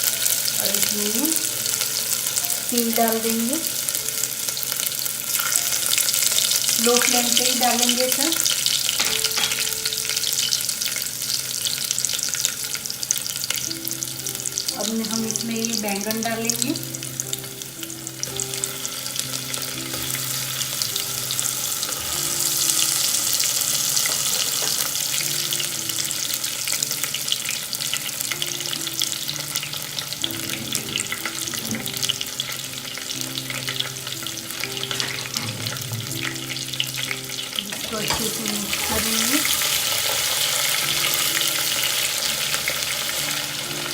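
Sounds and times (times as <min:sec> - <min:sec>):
vegetables sizzling in hot oil: 0:00.0 - 0:43.9.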